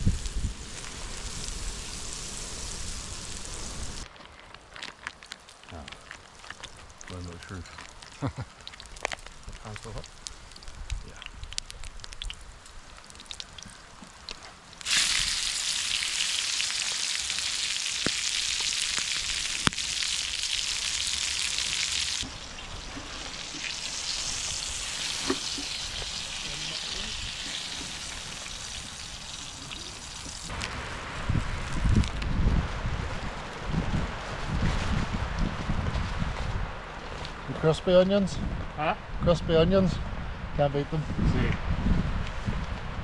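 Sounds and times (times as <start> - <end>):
food sizzling over coals: 0.0 - 42.9.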